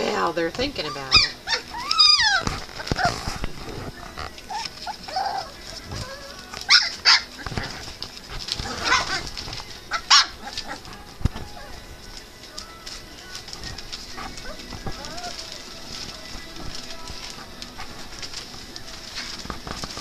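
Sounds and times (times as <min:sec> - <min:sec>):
puppies yipping and whining: 0:00.0 - 0:20.0.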